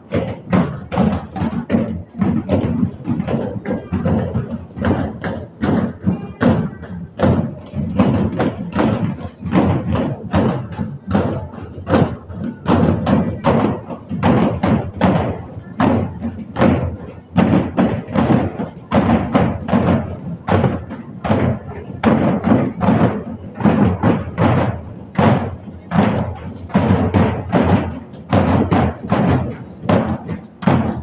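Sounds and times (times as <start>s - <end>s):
dhol drums beating: 0.0s - 31.0s.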